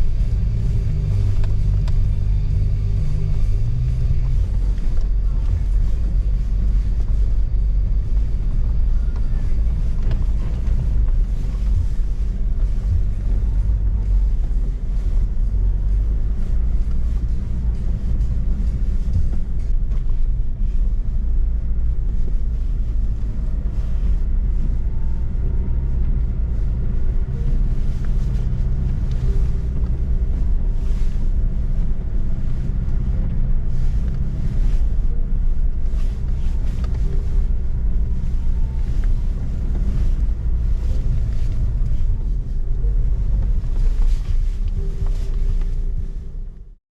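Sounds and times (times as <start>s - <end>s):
engine and road rumble: 0.0s - 46.8s.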